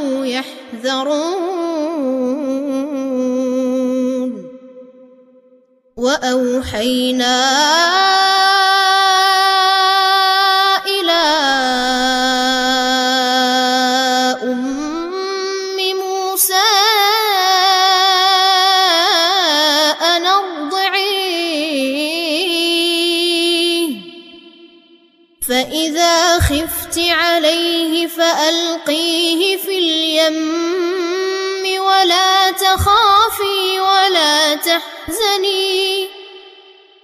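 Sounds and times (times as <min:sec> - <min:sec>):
boy chanting melodically: 0:00.0 - 0:04.5, 0:06.0 - 0:24.8, 0:25.4 - 0:36.6.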